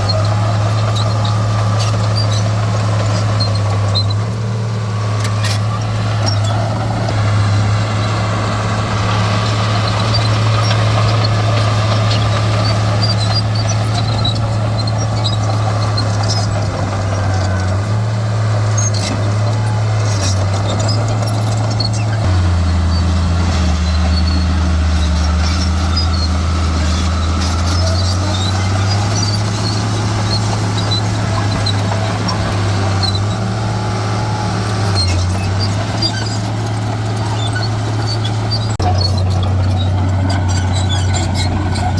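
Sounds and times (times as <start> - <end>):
diesel engine of earthmoving equipment: 0.0 - 41.9.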